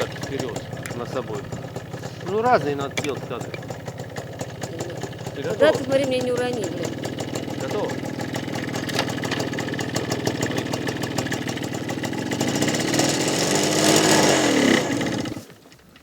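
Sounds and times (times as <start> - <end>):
motorcycle engine revving: 0.0 - 5.6, 6.9 - 15.5.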